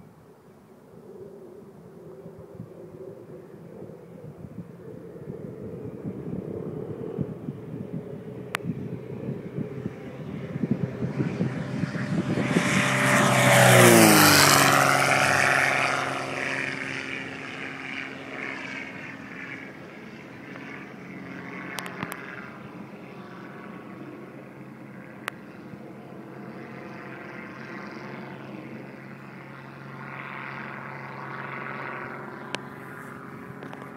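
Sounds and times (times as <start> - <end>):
propeller aircraft passing overhead: 0.0 - 33.9.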